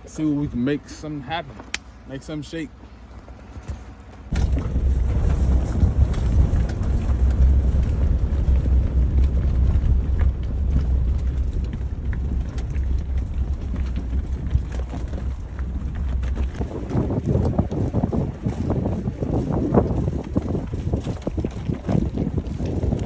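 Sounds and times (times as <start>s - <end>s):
pickup truck engine rumble: 3.0s - 23.0s
wind buffeting microphone: 4.2s - 23.0s.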